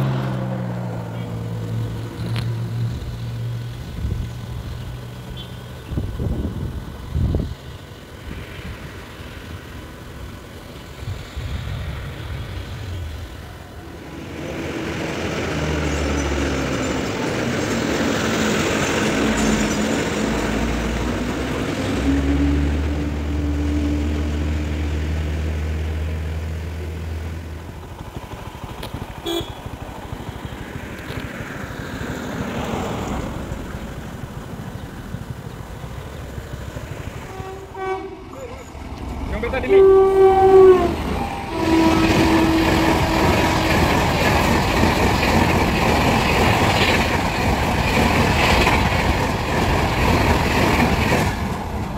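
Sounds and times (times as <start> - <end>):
bus diesel engine labouring: 0.0 - 51.9.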